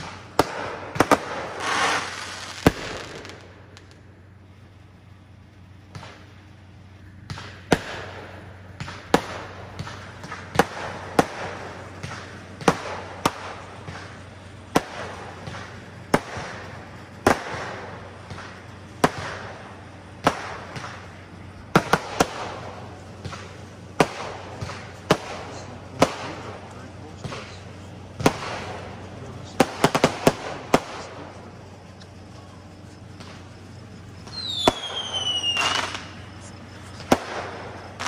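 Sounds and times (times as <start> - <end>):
firework shells bursting: 0.0 - 4.9, 5.5 - 38.0
fireworks crackling: 0.0 - 38.0.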